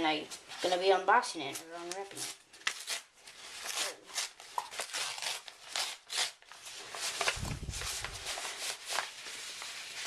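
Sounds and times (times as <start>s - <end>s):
wrapping rustling and tearing: 0.2s - 10.0s.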